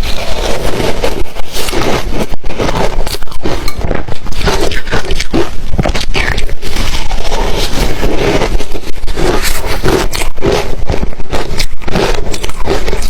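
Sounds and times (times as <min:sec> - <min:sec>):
chewing crunchy ice: 0:00.0 - 0:13.0.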